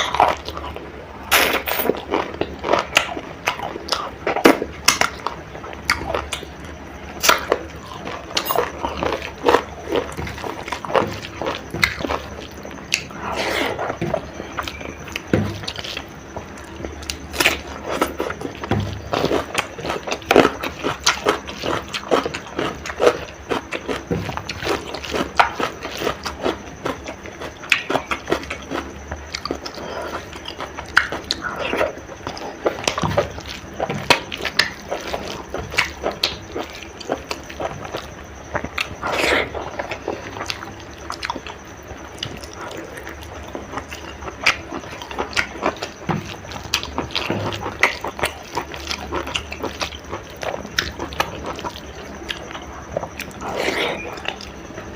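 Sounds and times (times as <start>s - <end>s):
chewing and mouth smacks: 0.0s - 54.9s.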